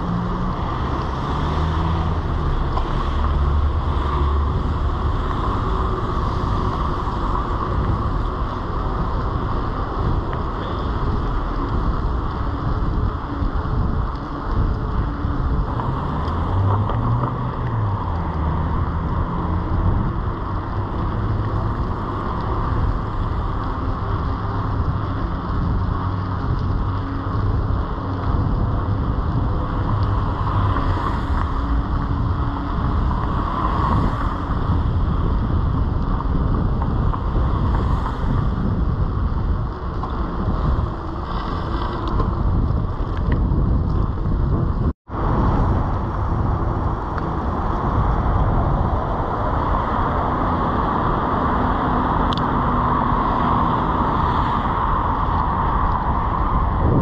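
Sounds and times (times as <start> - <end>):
bicycle road noise: 0.0 - 57.0
wind rushing over microphone: 0.0 - 57.0.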